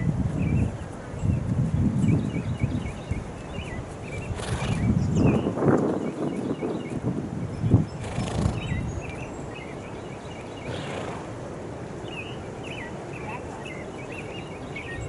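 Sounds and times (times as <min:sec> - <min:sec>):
songbirds chirping and singing: 0:00.0 - 0:11.1, 0:12.0 - 0:15.0.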